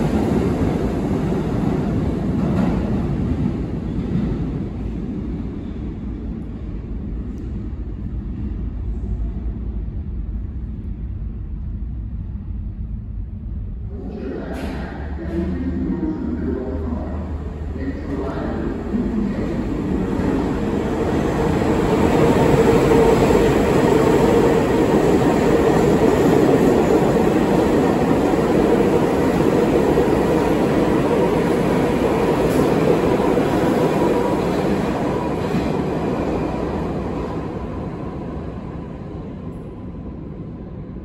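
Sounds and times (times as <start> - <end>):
subway train wheels rumbling: 0.0 - 41.0.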